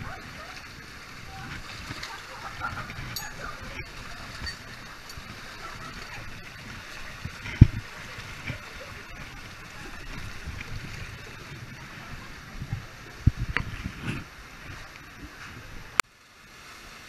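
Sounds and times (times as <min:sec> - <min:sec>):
water rushing and gurgling: 0:00.0 - 0:17.0.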